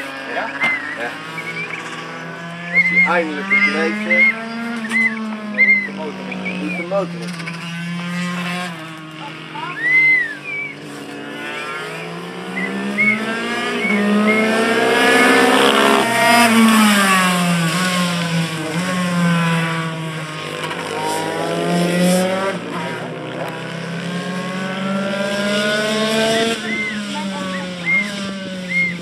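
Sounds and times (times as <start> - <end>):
motorcycle passing close: 0.0 - 29.0
race motorcycle engines revving: 0.0 - 29.0.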